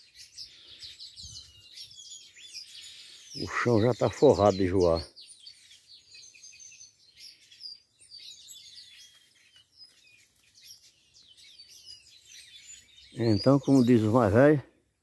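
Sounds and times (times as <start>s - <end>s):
songbirds singing and chirping: 0.0s - 15.0s.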